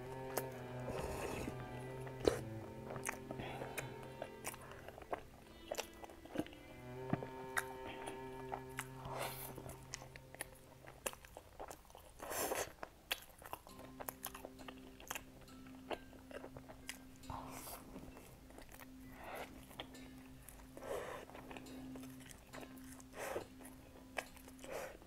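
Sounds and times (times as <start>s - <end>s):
faint background music: 0.0s - 25.0s
crunchy pastry chewing: 0.1s - 25.0s.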